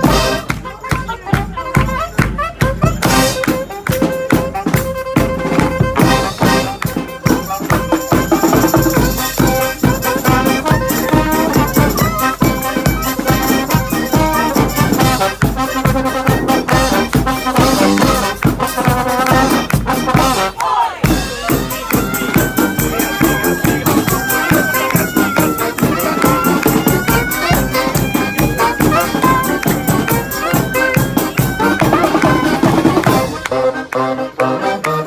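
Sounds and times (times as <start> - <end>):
brass band playing: 0.0 - 35.0
drum beat: 2.7 - 33.5.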